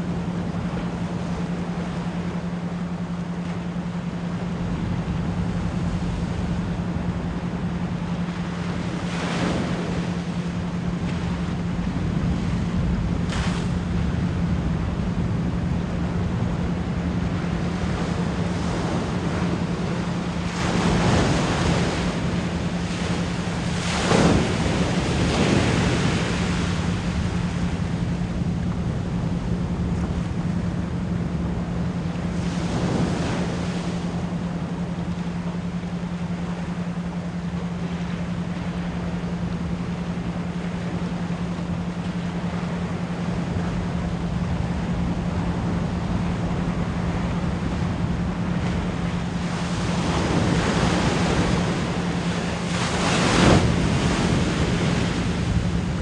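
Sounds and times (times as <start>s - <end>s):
ocean waves washing in: 0.0s - 56.0s
steady pure tone: 0.0s - 56.0s.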